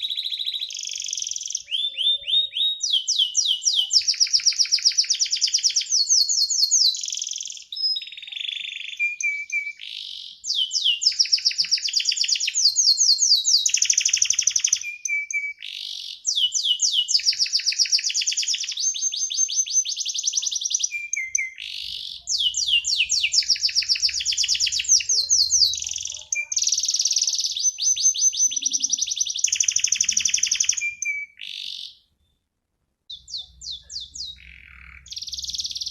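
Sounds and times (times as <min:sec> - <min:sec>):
canary singing trills and chirps: 0:00.0 - 0:32.5, 0:33.1 - 0:35.9.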